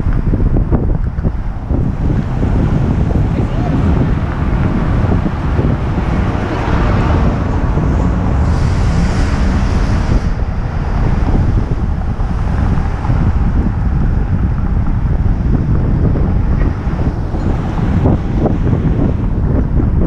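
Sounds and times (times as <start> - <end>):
city traffic: 0.0 - 20.0
wind buffeting microphone: 0.0 - 20.0.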